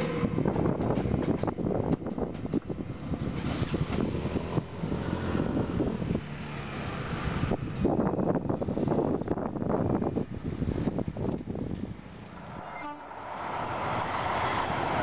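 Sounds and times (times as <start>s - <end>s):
electric locomotive rumble and hum: 0.0s - 15.0s
wind noise on microphone: 0.0s - 15.0s.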